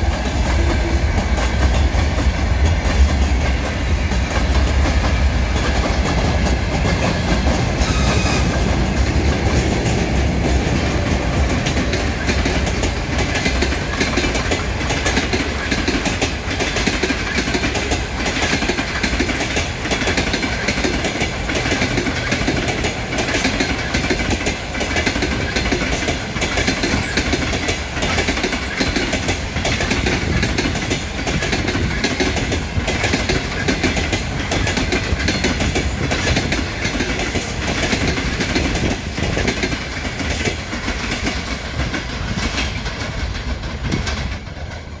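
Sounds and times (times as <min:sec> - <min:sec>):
train rolling rumble: 0:00.0 - 0:45.0
train wheels clattering over rail joints: 0:00.0 - 0:45.0.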